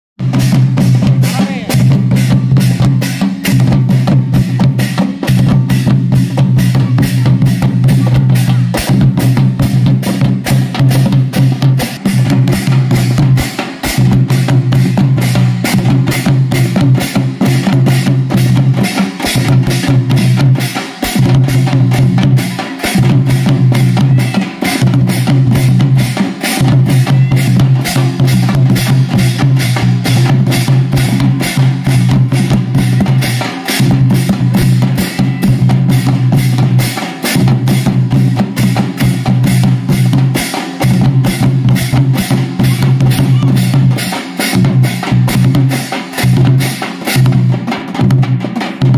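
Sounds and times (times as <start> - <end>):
barrel drums beaten with sticks: 0.2 - 48.9
brass hand cymbals clashing: 0.2 - 48.9.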